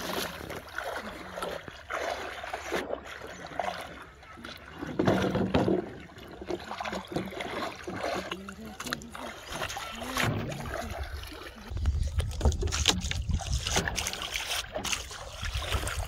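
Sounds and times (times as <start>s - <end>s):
water splashing around wading legs: 0.0s - 16.0s.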